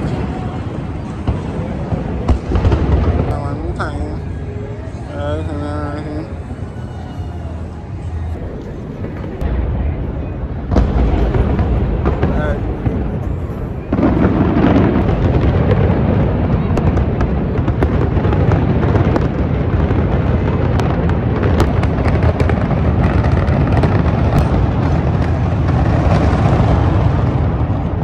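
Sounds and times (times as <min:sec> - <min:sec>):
fireworks bangs and crackles: 0:00.0 - 0:07.4, 0:08.0 - 0:28.0
heavy low rumble: 0:00.0 - 0:28.0.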